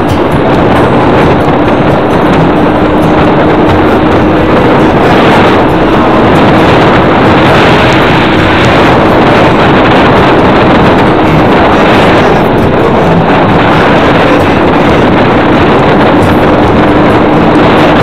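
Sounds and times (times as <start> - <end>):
loud steady rushing noise: 0.0 - 18.0.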